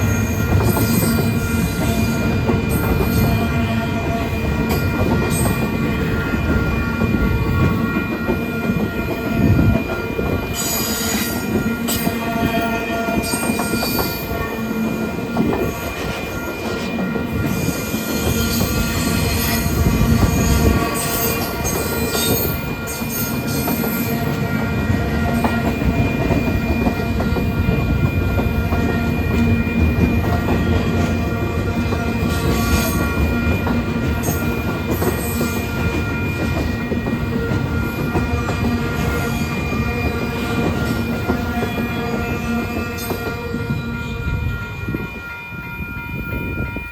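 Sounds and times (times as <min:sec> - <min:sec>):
freight train rumbling past: 0:00.0 - 0:46.9
train wheels squealing: 0:00.0 - 0:46.9.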